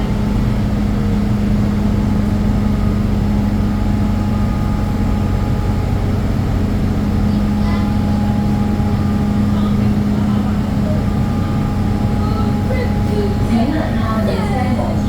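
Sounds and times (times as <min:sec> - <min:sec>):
train rumbling with low hum: 0:00.0 - 0:15.0.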